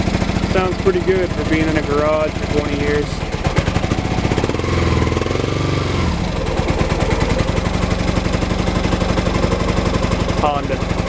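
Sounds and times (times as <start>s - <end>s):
motorcycle engine revving and running: 0.0s - 11.0s.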